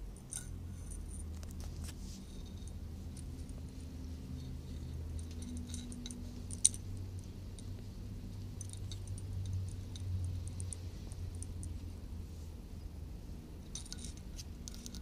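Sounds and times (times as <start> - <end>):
metal collar tags jingling: 0.0 - 11.9, 13.6 - 15.0
low steady hum: 0.0 - 15.0.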